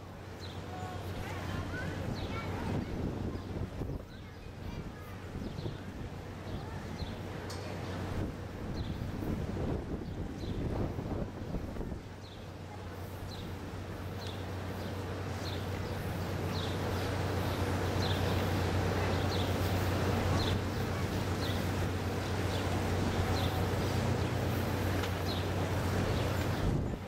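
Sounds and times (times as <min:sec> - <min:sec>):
steamship machinery hum: 0:00.0 - 0:27.0.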